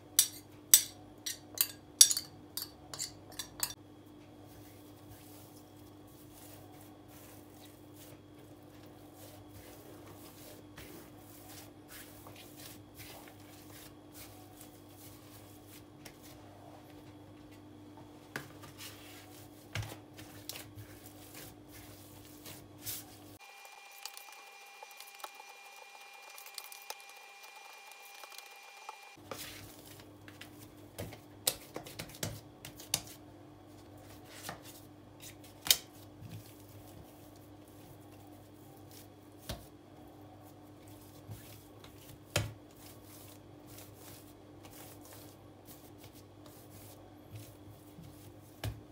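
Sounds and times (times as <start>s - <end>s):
hands kneading dough: 3.7s - 48.9s.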